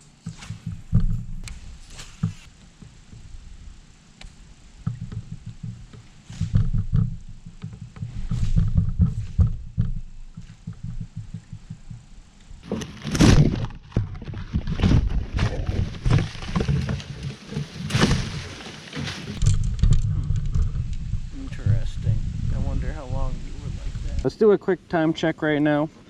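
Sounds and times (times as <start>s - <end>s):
wind rumbling on microphone: 0.0s - 24.3s.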